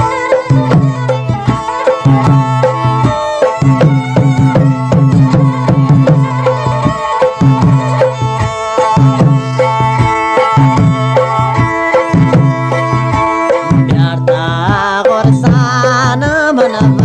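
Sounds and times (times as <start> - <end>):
fast hand-drum rhythm: 0.0 - 17.0
held melodic tones: 0.0 - 17.0.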